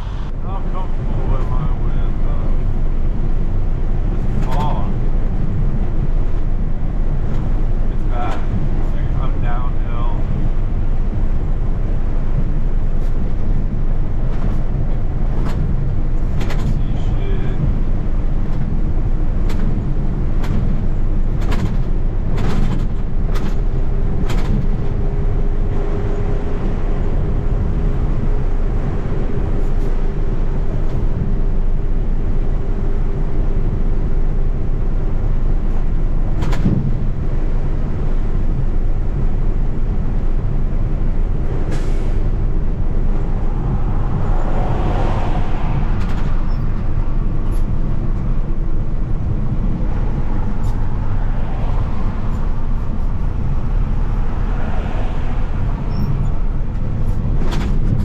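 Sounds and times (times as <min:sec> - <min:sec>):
truck road and engine rumble: 0:00.0 - 0:58.0.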